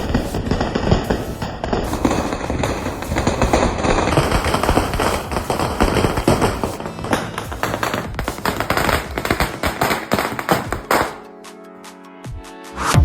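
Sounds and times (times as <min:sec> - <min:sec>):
string of firecrackers bursting: 0:00.0 - 0:11.4.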